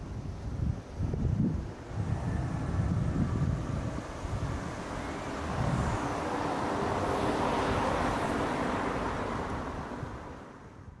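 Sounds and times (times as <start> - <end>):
street traffic rush: 0.0 - 11.0.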